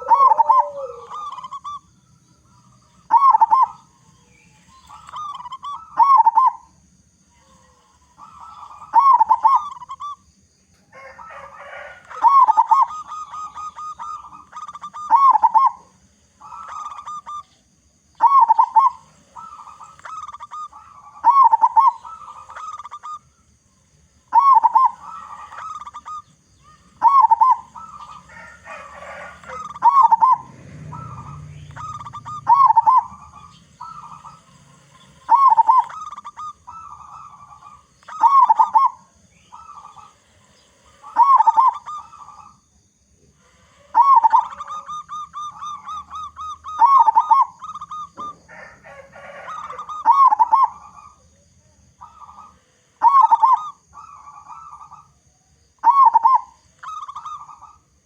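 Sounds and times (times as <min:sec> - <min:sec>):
dove cooing: 0:00.0 - 0:10.2, 0:10.8 - 0:55.2, 0:55.8 - 0:58.0.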